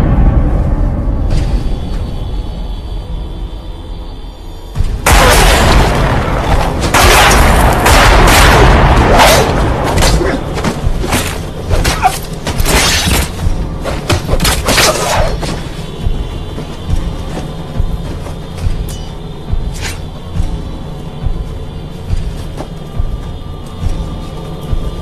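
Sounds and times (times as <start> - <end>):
low rumbling background: 0.0 - 25.0.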